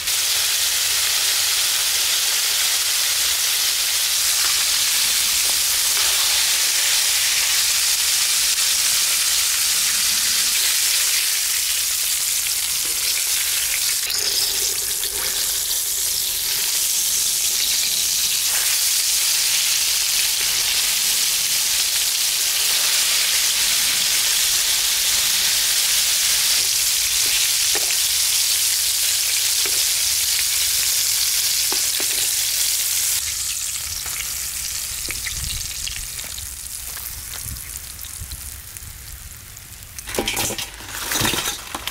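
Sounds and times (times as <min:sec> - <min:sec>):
deep-frying sizzle: 0:00.0 - 0:41.9.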